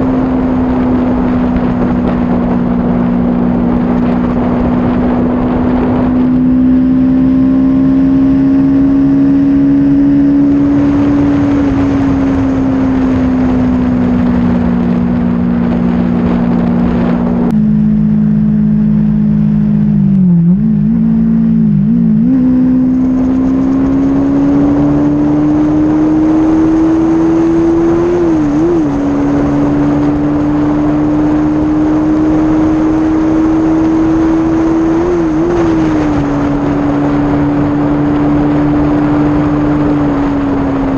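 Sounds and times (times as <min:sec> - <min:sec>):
motorcycle engine at high revs: 0:00.0 - 0:40.9
wind noise on microphone: 0:00.0 - 0:40.9.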